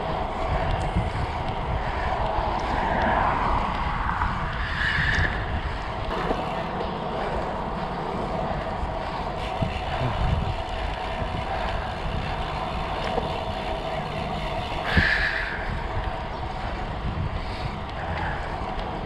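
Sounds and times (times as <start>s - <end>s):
bike tyres humming on path: 0.0s - 19.0s
wind on microphone: 0.0s - 19.0s.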